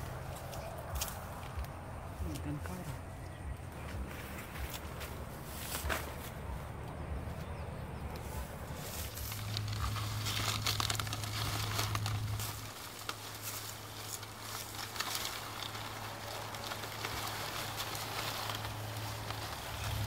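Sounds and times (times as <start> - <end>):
straw and leaves rustling and tearing: 0.0 - 20.0.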